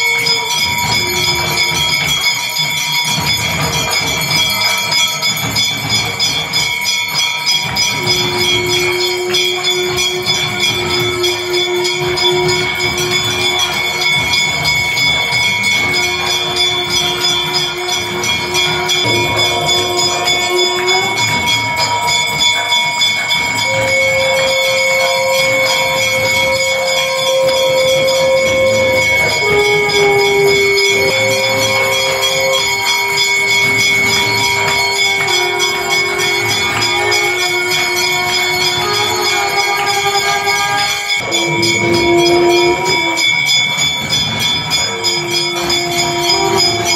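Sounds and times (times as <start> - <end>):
dense clattering rhythm: 0.0 - 46.9
temple bells ringing: 0.0 - 46.9
long held notes: 7.6 - 46.9.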